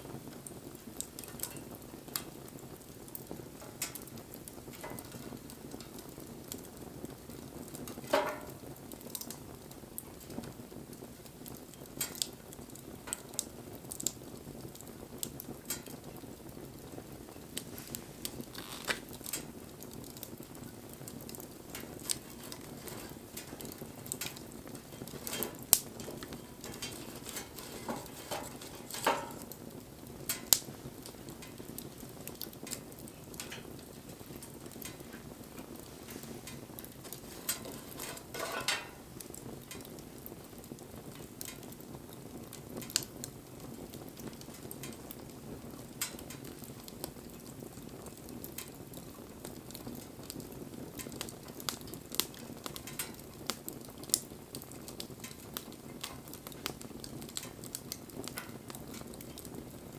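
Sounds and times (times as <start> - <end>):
fire crackling and popping: 0.0 - 59.9
wood fire flames rushing: 0.0 - 59.9.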